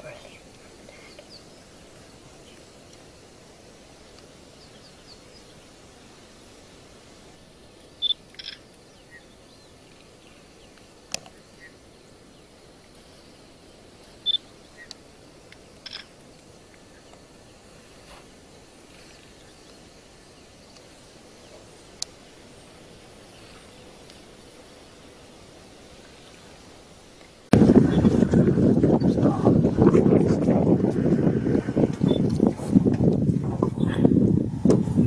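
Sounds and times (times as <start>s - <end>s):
faint hiss: 0.0s - 35.0s.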